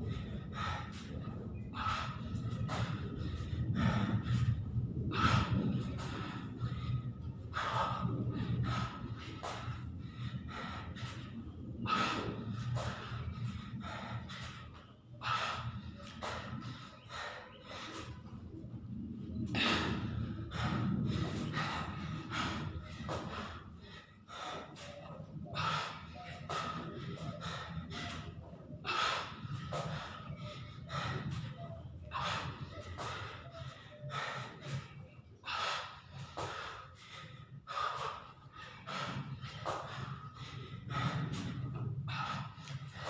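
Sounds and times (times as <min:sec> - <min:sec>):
man breathing hard: 0:00.0 - 0:43.0.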